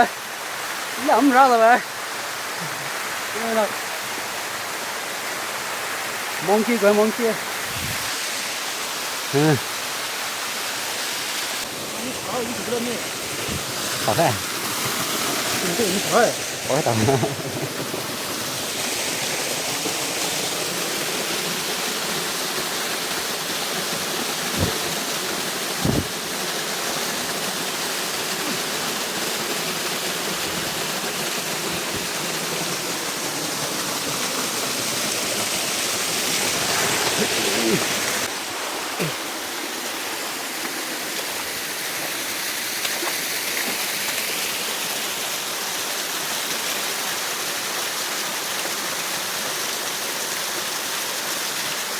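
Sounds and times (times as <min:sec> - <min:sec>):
jungle stream rushing: 0:00.0 - 0:51.9.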